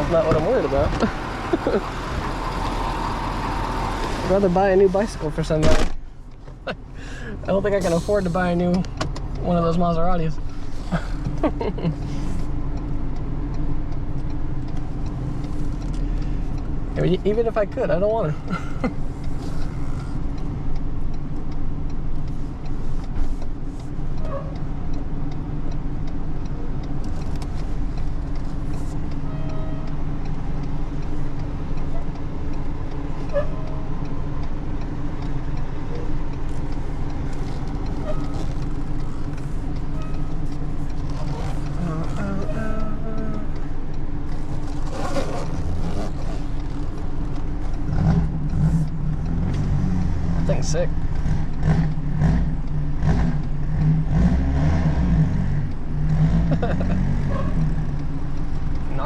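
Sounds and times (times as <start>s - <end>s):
vehicle engine idling: 0.0s - 54.3s, 55.4s - 59.0s
faint regular ticking: 4.3s - 54.4s, 55.1s - 59.0s.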